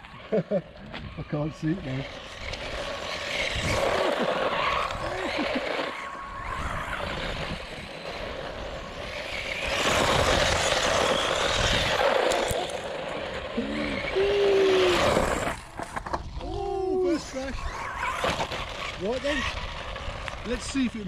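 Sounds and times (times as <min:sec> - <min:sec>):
rc truck tyres crunching gravel: 0:00.0 - 0:21.0.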